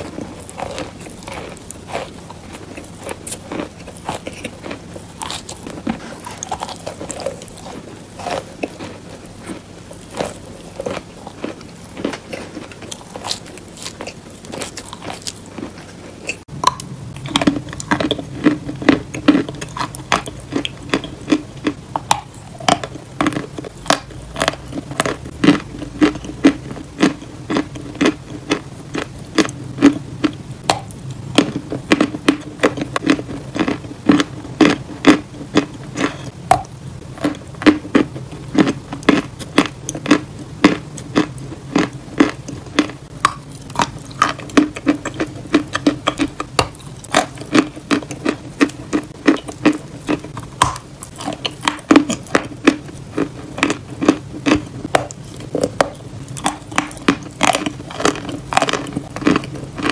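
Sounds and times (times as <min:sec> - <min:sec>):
chalk crunching while chewing: 0:00.0 - 0:59.9.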